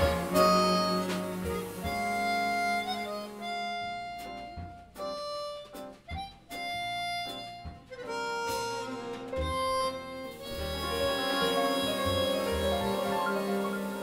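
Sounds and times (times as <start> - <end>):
upright bass plucks: 0.0 - 13.9
harmonica slow melody: 0.0 - 14.0.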